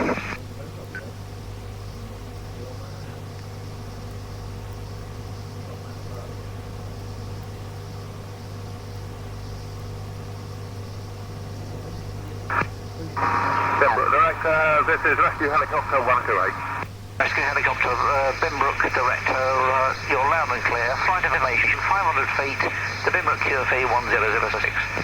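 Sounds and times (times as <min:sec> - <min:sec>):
radio receiver hum and hiss: 0:00.0 - 0:25.0.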